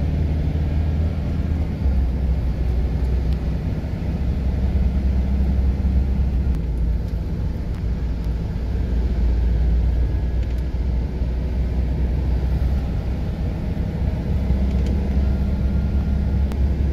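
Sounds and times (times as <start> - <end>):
car engine and tyre rumble: 0.0 - 16.9.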